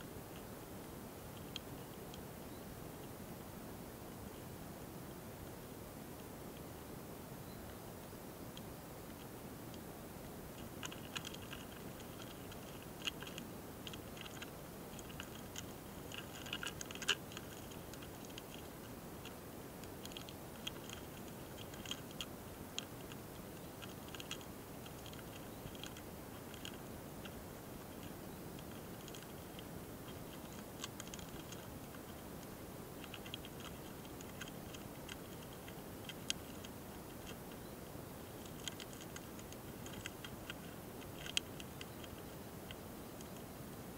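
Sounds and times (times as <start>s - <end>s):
beetles clicking and ticking: 0.0s - 3.2s, 7.5s - 43.9s
steady hiss: 0.0s - 43.9s.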